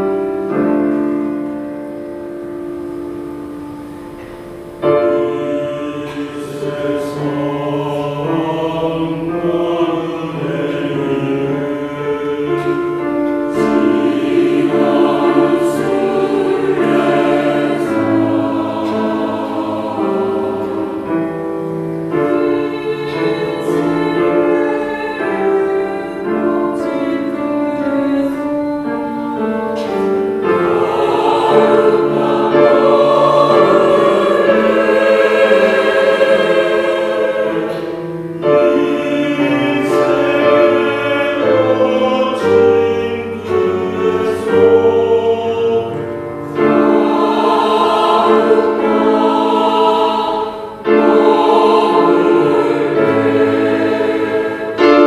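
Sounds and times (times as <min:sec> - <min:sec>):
choir singing a hymn: 0:00.0 - 0:55.0
piano accompaniment: 0:00.0 - 0:55.0.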